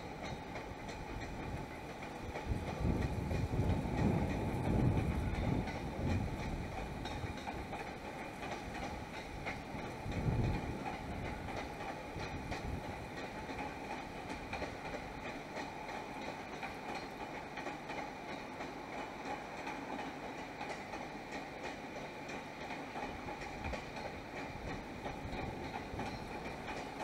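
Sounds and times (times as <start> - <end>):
train running rumble: 0.0 - 27.0
train wheels clicking over rail joints: 0.0 - 27.0.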